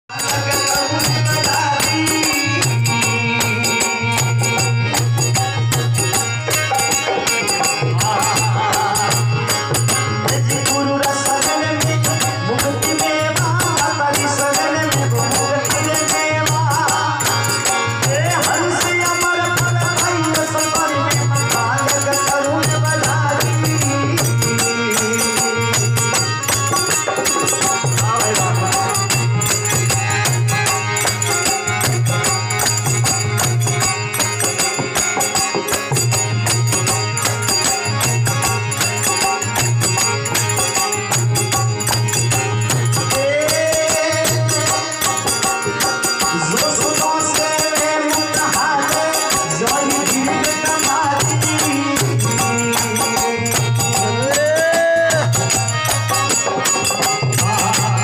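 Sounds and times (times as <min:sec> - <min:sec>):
harmonium: 0:00.0 - 0:58.0
man singing into microphone: 0:00.0 - 0:58.0
hand percussion beat: 0:00.1 - 0:58.0.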